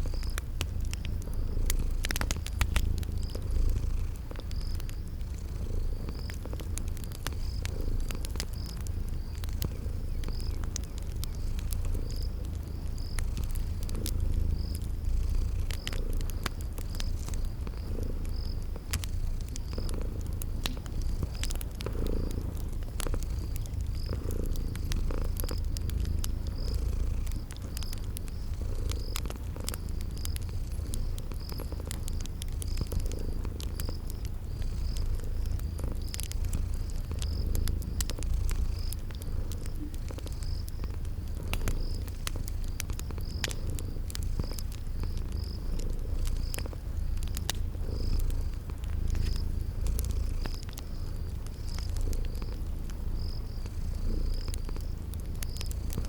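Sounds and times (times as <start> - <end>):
cat purring: 0.0 - 56.0
cricket chirping: 0.0 - 56.0
wood fire crackling: 0.0 - 56.0.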